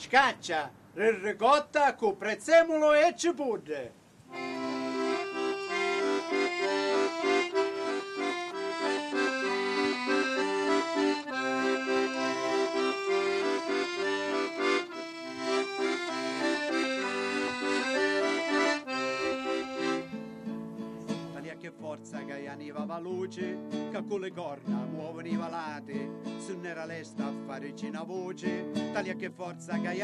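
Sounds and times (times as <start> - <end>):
accordion folk melody: 4.3 - 30.0.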